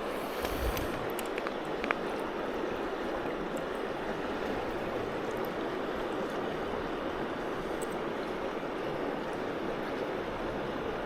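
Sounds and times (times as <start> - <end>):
creek water flowing over rocks: 0.0 - 11.0.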